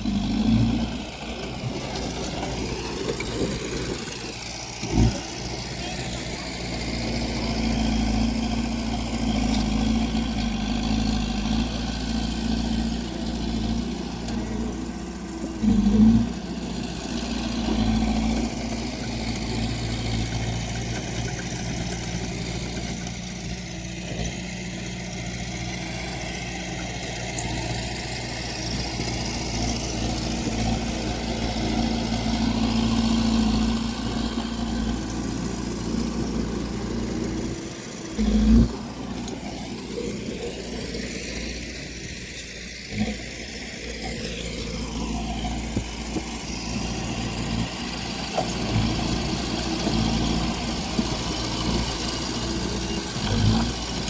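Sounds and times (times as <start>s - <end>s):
diesel machinery engine running: 0.0s - 54.0s.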